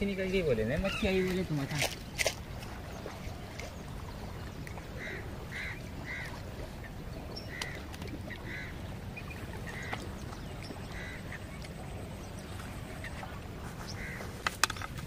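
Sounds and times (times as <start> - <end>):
waterfowl calling: 0.7 - 1.7, 2.7 - 14.8.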